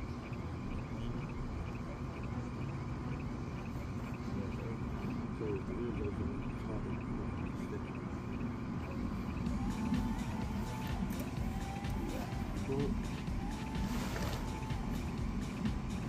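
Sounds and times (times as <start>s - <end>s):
continuous low rumble: 0.0s - 16.0s
crickets chirping: 0.0s - 16.0s.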